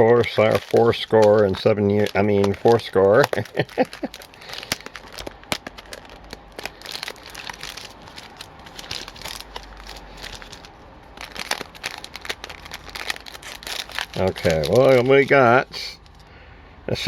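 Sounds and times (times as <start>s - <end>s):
card packs crinkling: 0.0s - 16.3s.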